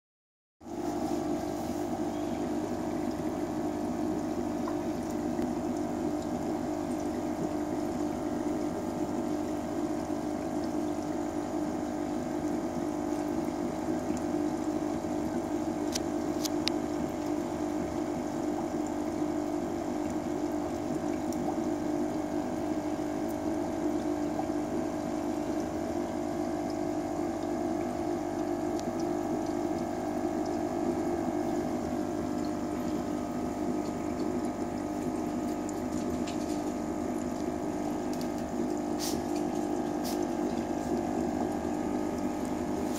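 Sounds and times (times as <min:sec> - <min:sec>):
aquarium pump humming: 0:00.6 - 0:42.9
water bubbling: 0:00.7 - 0:42.9.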